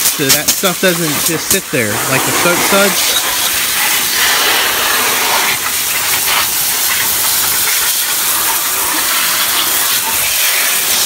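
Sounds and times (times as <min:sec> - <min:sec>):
water from garden hose splashing: 0:00.0 - 0:11.0.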